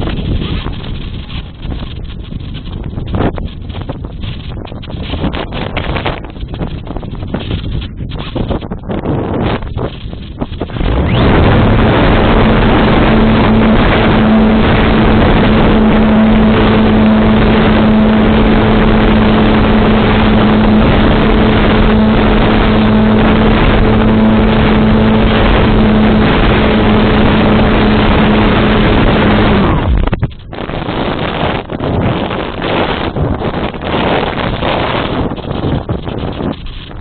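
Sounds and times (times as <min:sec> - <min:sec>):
electric motor and propeller hum: 0:00.0 - 0:37.0
wind rush: 0:00.0 - 0:37.0.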